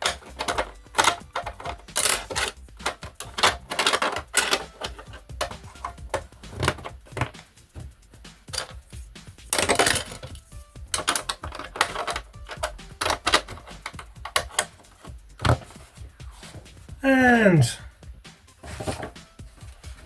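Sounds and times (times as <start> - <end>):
plastic pieces clicking into place: 0.0 - 16.6.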